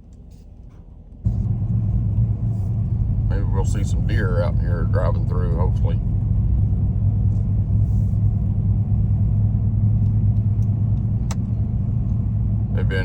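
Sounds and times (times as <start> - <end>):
car engine and tyre road noise: 0.0 - 13.0.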